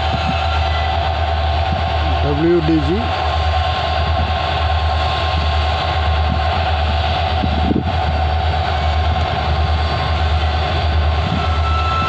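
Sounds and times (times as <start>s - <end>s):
diesel locomotive engines droning: 0.0s - 12.0s.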